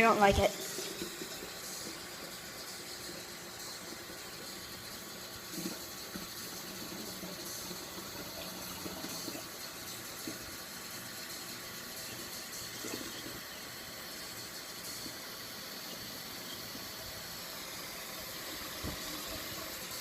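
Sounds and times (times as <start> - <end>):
water filling a container: 0.0 - 20.0.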